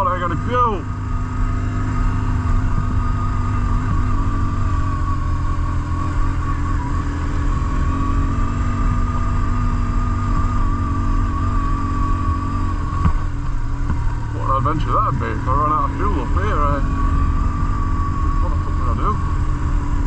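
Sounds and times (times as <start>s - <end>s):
motorcycle engine running: 0.0s - 20.0s
steady high whine: 0.0s - 20.0s.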